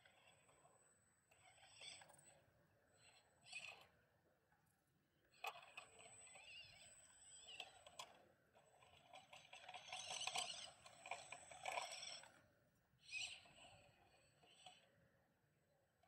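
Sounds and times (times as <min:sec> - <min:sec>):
small electric motor whine: 0:00.0 - 0:04.0, 0:05.3 - 0:16.0.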